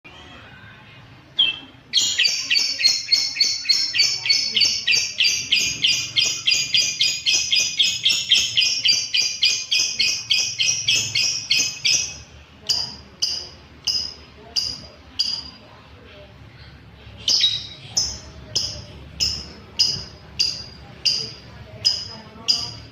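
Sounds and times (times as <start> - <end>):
lovebird chattering song: 1.4 - 15.6, 17.1 - 22.9.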